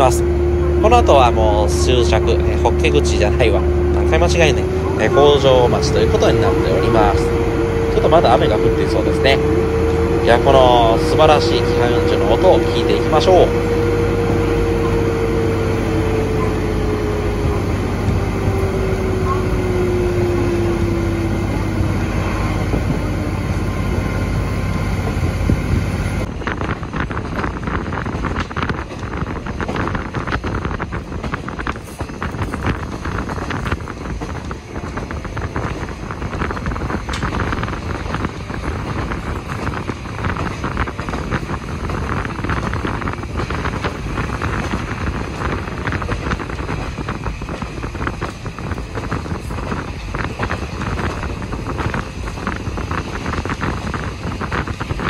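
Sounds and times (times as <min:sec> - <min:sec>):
diesel engine drone: 0:00.0 - 0:28.1, 0:31.1 - 0:55.0
wheels on rails: 0:00.0 - 0:55.0
wind buffeting microphone: 0:00.0 - 0:55.0.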